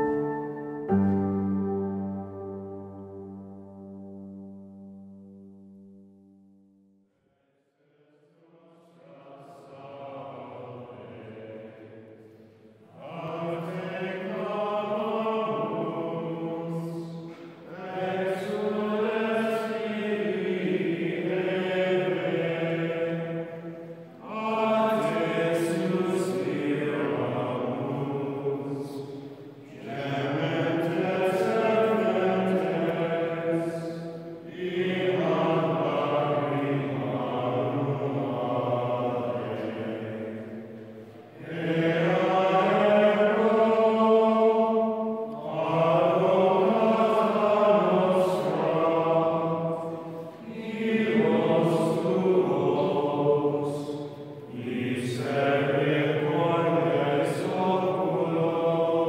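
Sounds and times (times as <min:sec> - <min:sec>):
chant-like singing: 0:07.8 - 0:59.0.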